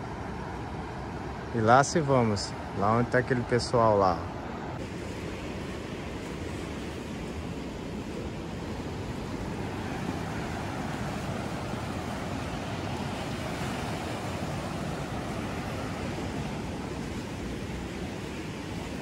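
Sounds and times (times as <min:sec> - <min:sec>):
ocean surf washing ashore: 0:00.0 - 0:19.0
wind: 0:00.0 - 0:19.0.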